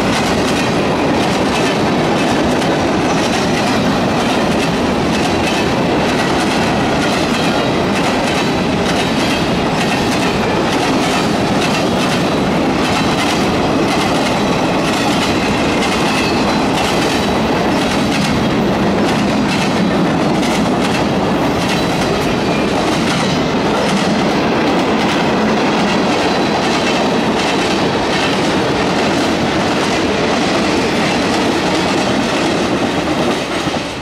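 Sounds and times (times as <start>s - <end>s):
freight train rolling past: 0.0s - 34.0s
wheels clacking over rail joints: 0.0s - 34.0s.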